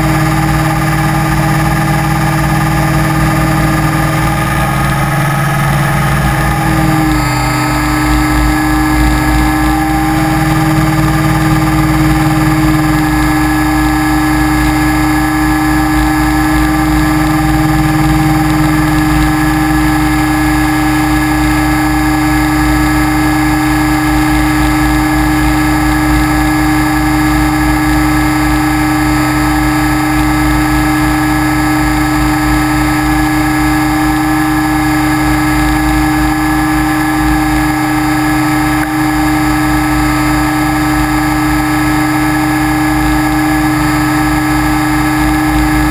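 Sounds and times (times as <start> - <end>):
model aircraft motor and propeller: 0.0 - 45.9.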